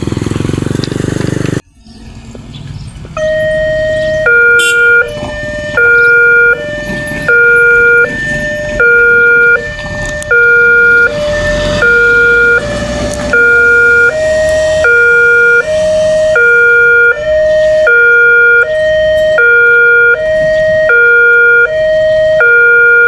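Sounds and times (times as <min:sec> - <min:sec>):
two-tone crossing alarm siren: 0:01.6 - 0:23.0.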